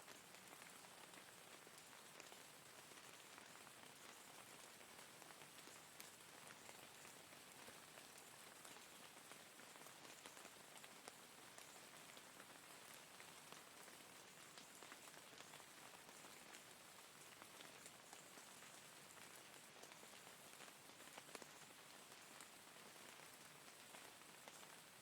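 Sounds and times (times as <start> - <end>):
faint rain hiss: 0.0 - 25.0
raindrops ticking: 0.2 - 25.0.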